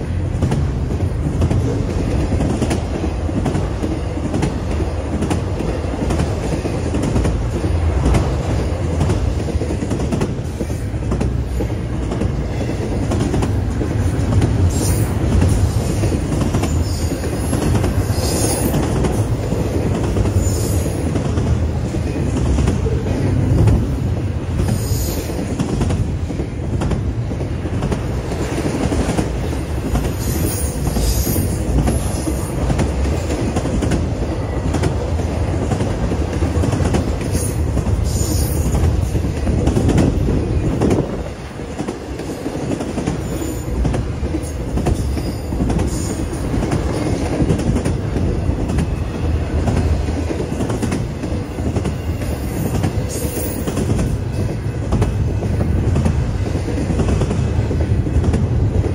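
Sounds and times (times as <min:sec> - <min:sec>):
freight train wheels rumbling on rail: 0:00.0 - 0:58.9.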